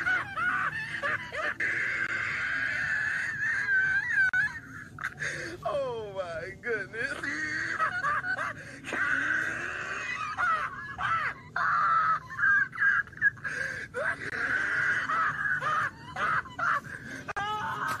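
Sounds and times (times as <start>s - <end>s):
man wheezing laughter: 0.0s - 5.6s, 7.1s - 18.0s.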